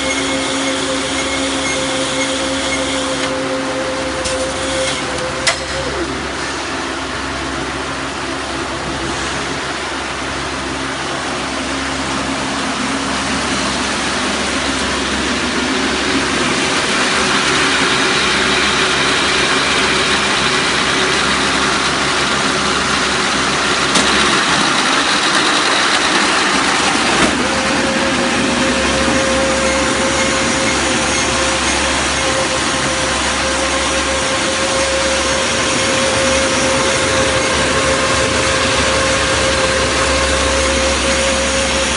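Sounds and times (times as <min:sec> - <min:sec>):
baler machine running: 0:00.0 - 0:41.9
steady whine: 0:00.0 - 0:41.9.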